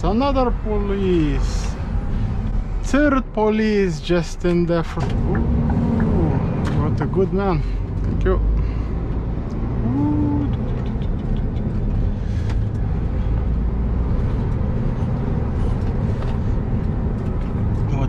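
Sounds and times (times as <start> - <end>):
lorry diesel engine droning: 0.0 - 18.0.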